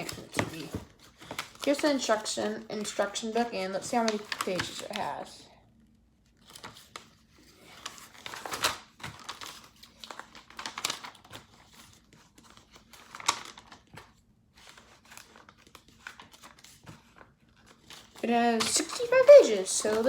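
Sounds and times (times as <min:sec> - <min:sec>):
paper pages rustling: 0:00.0 - 0:05.3, 0:06.2 - 0:20.0.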